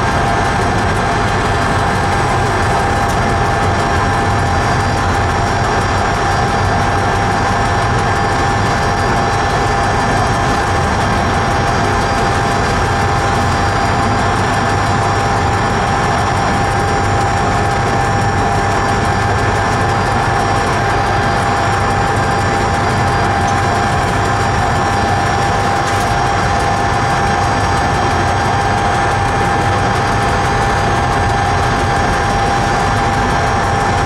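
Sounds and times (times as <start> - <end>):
steady high whine: 0.0 - 34.0.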